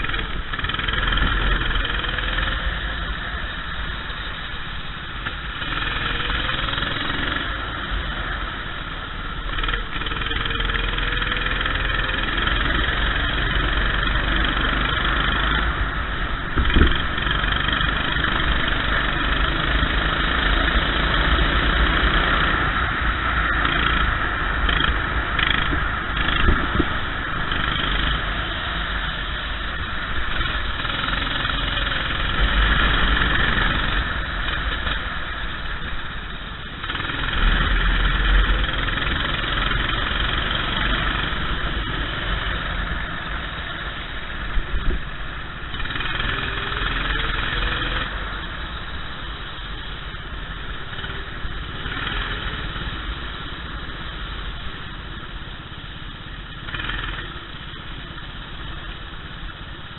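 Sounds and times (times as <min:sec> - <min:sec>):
go-kart engine running: 0:00.0 - 0:59.9
steady hiss: 0:10.6 - 0:59.9.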